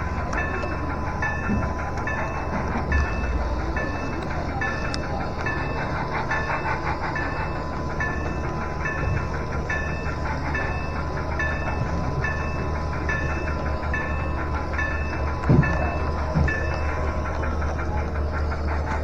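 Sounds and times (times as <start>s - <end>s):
model train motor hum: 0.0s - 19.0s
regular track clicks: 0.0s - 19.0s.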